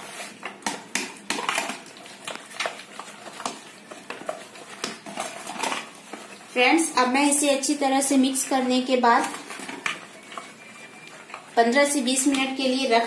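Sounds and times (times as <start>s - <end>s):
wet batter stirring: 0.0s - 13.0s.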